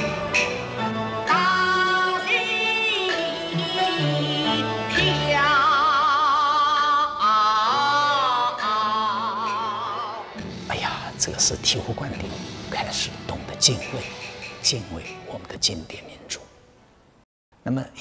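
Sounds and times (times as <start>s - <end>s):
instrumental accompaniment: 0.0s - 16.1s.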